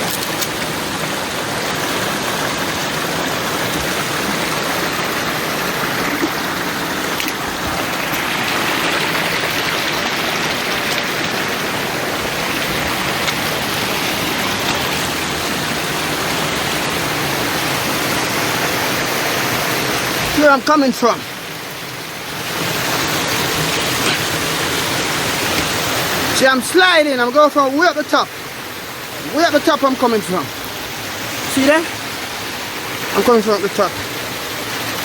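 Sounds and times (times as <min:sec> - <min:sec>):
rushing river water: 0:00.0 - 0:35.0.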